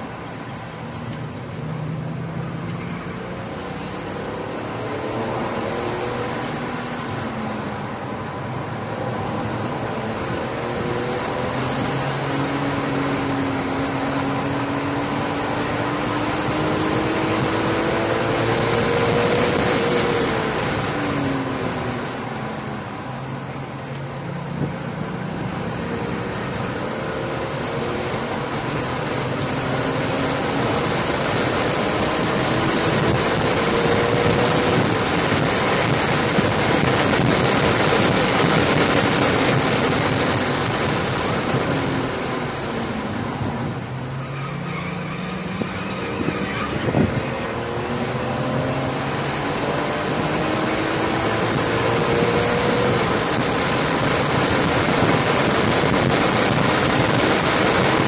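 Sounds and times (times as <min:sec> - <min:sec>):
wind and tyre noise: 0:00.0 - 0:58.0
car engine revving: 0:01.3 - 0:58.0.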